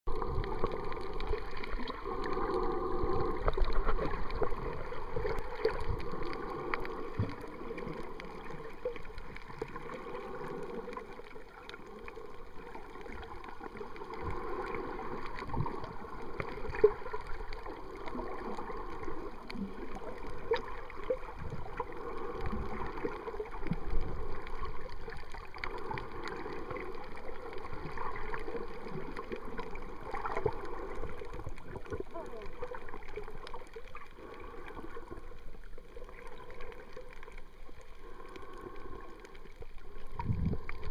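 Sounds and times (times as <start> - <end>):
underwater water sloshing and gurgling: 0.1 - 40.9.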